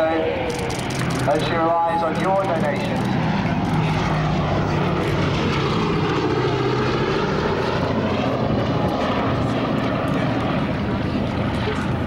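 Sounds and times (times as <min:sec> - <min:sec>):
propeller plane droning past: 0:00.0 - 0:12.0.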